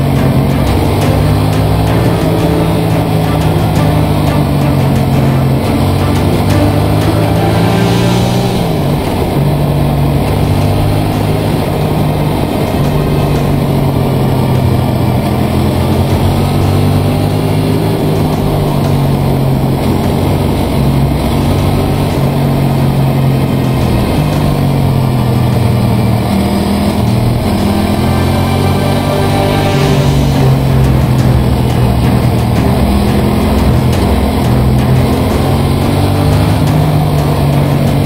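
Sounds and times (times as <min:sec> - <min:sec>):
motorcycle engine cruising: 0:00.0 - 0:38.0
wind and road noise: 0:00.0 - 0:38.0.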